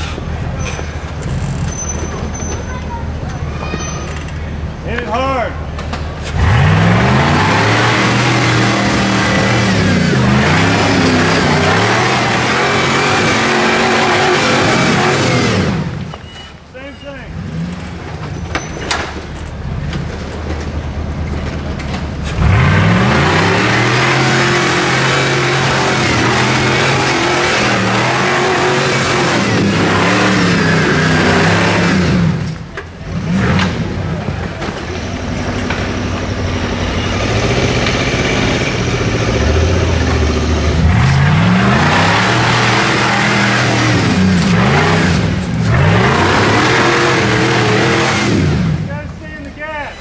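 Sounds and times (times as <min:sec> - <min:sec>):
buggy engine revving: 0:00.0 - 0:16.2, 0:17.3 - 0:49.2.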